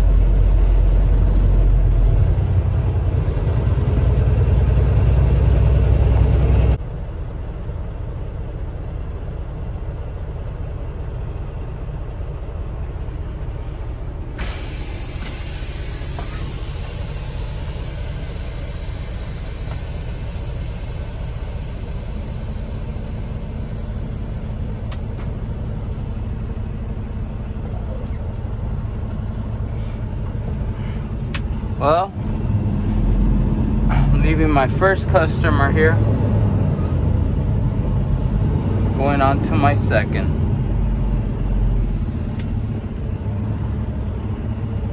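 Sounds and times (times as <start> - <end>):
diesel engine idling: 0.0 - 44.9
road noise: 0.0 - 44.9.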